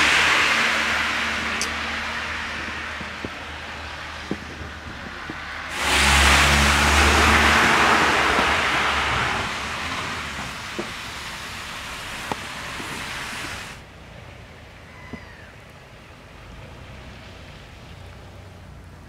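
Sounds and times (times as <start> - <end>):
cars passing on snowy road: 0.0 - 19.0.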